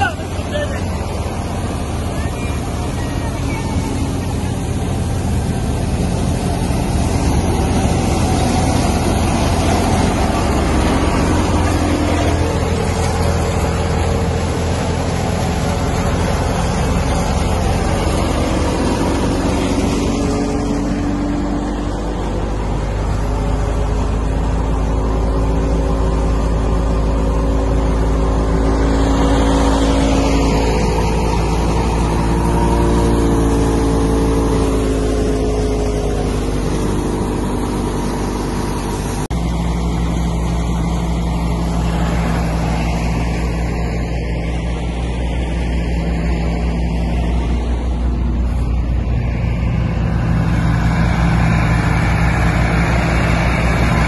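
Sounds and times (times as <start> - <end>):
thresher drum and fan: 0.0 - 54.0
tractor diesel engine: 0.0 - 54.0.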